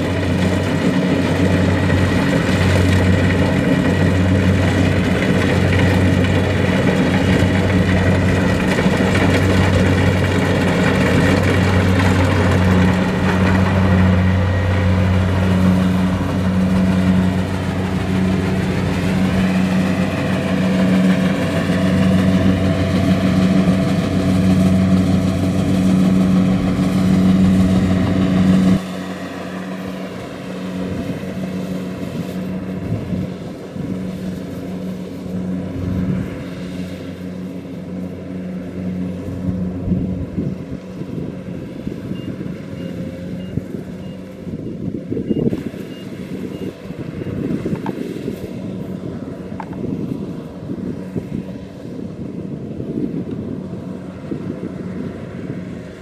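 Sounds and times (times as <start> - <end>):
machinery whirring: 0.0 - 51.5
combine harvester engine humming: 0.0 - 56.0.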